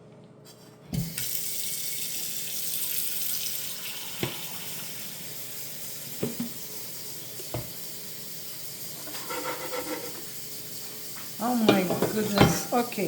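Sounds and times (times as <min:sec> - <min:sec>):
eggs sizzling in a frying pan: 0:01.1 - 0:13.0.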